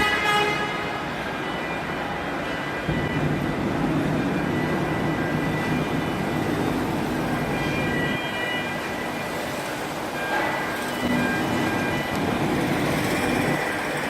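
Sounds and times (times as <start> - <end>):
heavy engine rumbling: 2.0 - 14.0.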